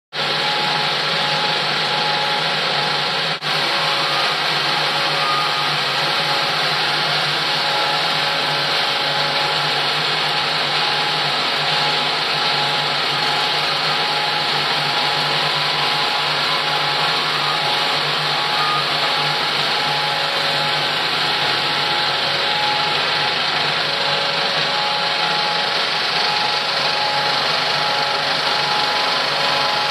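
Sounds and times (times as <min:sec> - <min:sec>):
film projector whirring: 0:00.1 - 0:29.9.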